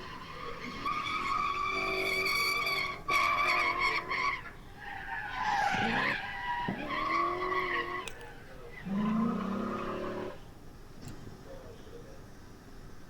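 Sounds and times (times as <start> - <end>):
tyres squealing: 0.0 - 10.5.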